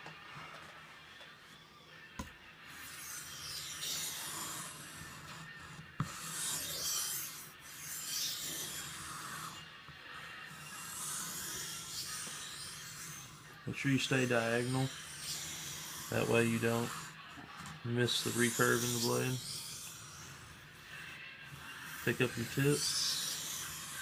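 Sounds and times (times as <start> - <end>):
knife rubbing on whetstone: 2.6 - 24.0.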